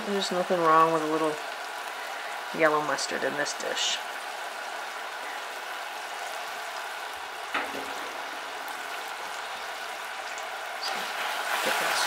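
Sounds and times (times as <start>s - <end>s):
sauce sizzling and bubbling: 0.0s - 12.0s.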